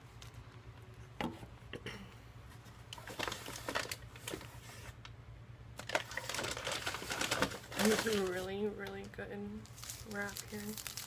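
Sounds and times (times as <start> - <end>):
steady low hum: 0.0 - 6.0, 6.7 - 11.0.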